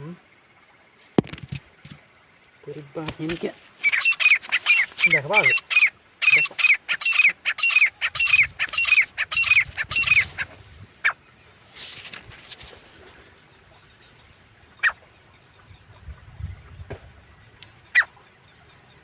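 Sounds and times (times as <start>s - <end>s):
francolin calling: 3.7s - 19.0s.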